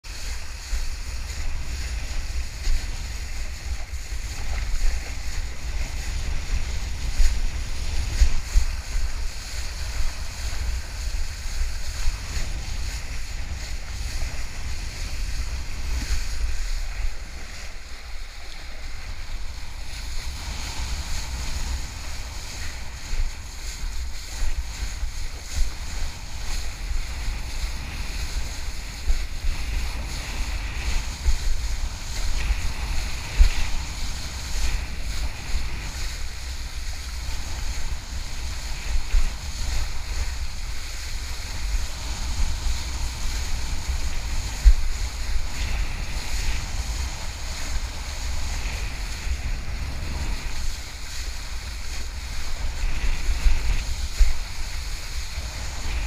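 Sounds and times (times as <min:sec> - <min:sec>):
kiteboard skimming over water: 0:00.0 - 0:56.0
wind buffeting microphone: 0:00.0 - 0:56.0.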